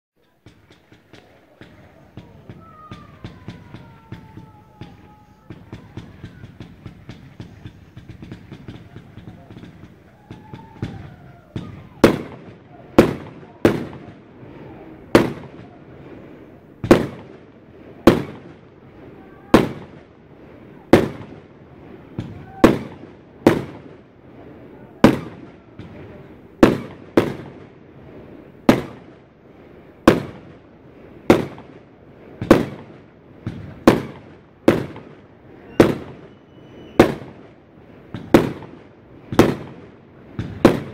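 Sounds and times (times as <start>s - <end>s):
fireworks crackle: 0.2s - 40.9s
fireworks sharp bangs: 0.2s - 40.9s.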